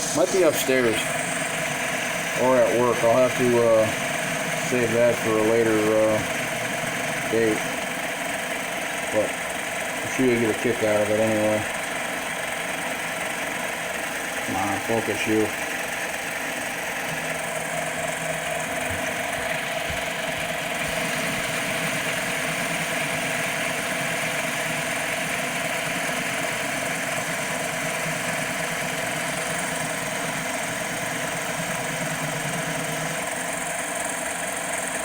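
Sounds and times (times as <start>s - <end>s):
lathe motor hum: 0.0s - 35.0s
lathe tool cutting workpiece: 0.0s - 35.0s.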